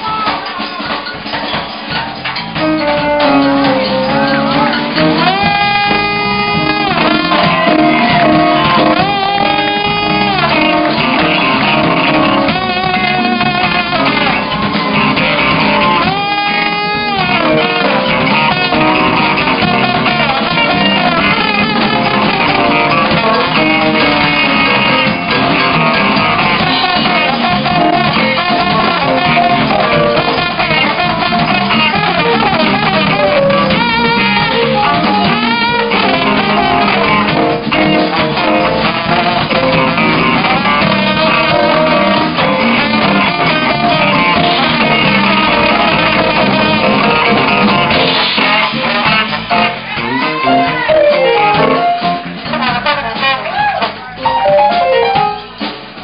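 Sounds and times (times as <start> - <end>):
drum kit: 0.0 - 56.0
electric guitar: 0.0 - 56.0
trombone long sliding notes: 2.6 - 55.6.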